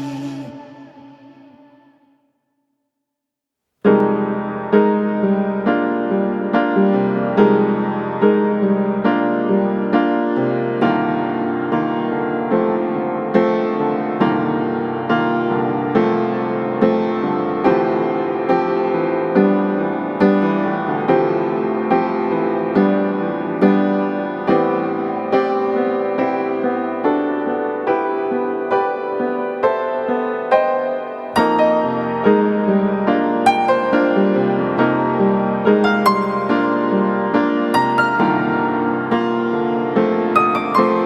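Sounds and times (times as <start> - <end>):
slow piano music: 3.8 - 41.0.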